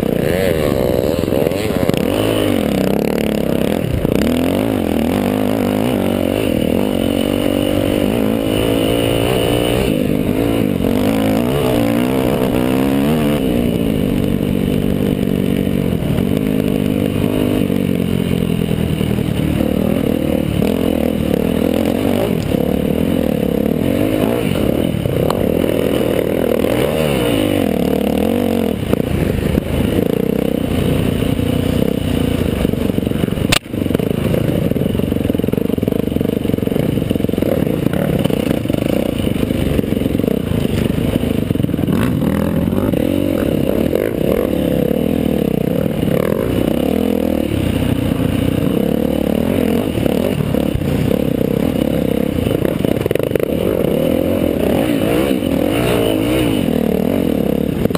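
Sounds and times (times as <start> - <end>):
bike rattling: 0.0 - 57.9
dirt bike engine running hard: 0.0 - 57.9.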